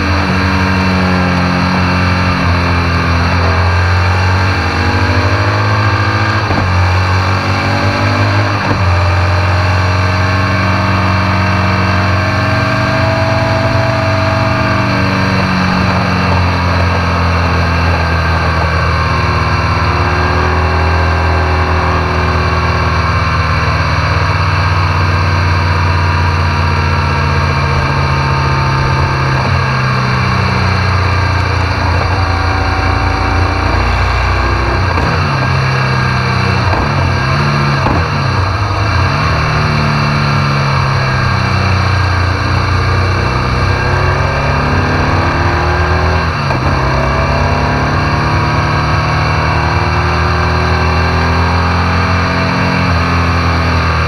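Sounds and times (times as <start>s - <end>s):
motorcycle engine at road speed: 0.0s - 54.0s
wind and road noise: 0.0s - 54.0s.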